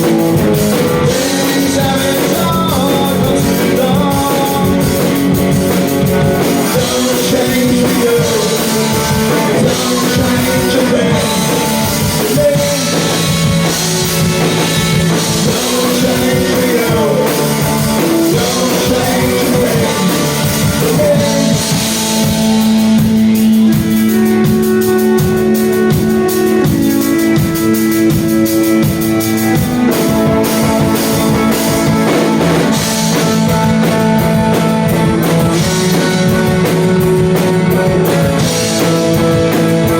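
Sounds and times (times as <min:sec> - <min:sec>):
drum kit: 0:00.0 - 0:39.9
electric guitar: 0:00.0 - 0:39.9
person singing: 0:00.0 - 0:39.9.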